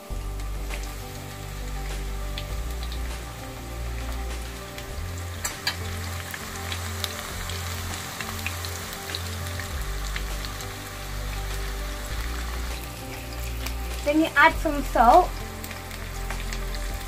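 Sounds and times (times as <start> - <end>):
oil popping: 0.0 - 17.0
onion and garlic sizzling: 0.0 - 17.0.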